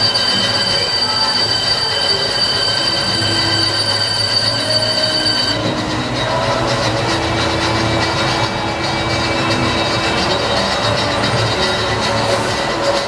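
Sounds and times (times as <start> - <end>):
high-pitched cutting squeal: 0.0 - 13.0
machining machine running: 0.0 - 13.0.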